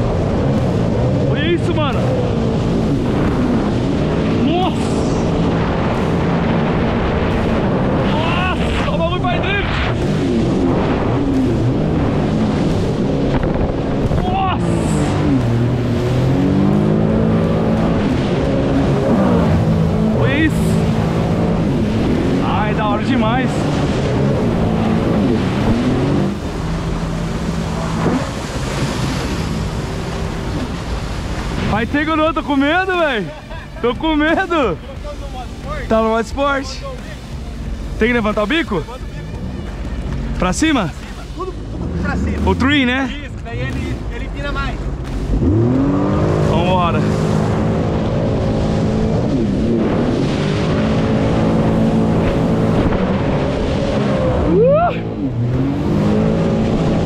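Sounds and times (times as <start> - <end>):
jet ski engine running: 0.0 - 57.0
rushing water and wind: 0.0 - 57.0.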